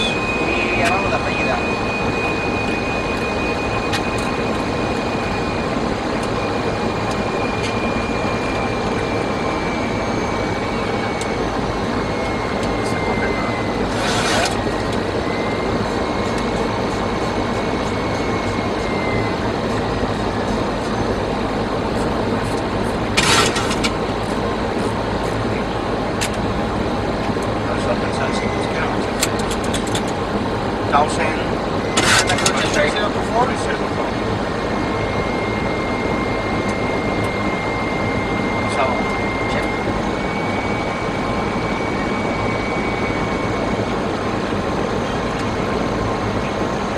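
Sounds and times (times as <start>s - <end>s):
high whine falling in pitch: 0.0s - 29.2s, 30.5s - 46.9s
aircraft engines and rushing air: 0.0s - 46.9s.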